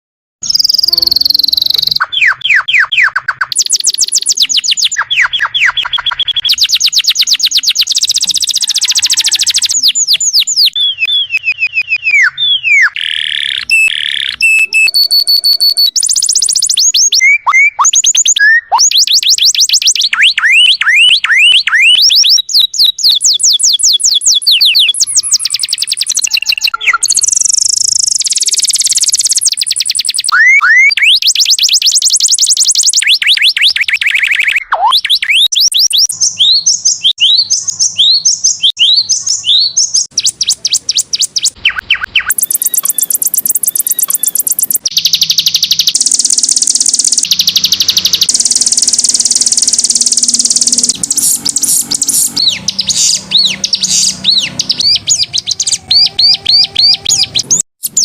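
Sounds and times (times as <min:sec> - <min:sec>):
canary song: 0:00.4 - 0:58.0.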